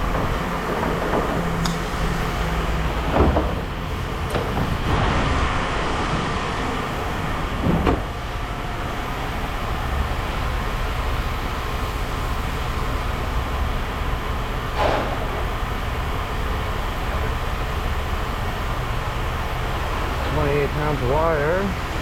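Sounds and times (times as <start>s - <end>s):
machinery rumble: 0.0s - 22.0s.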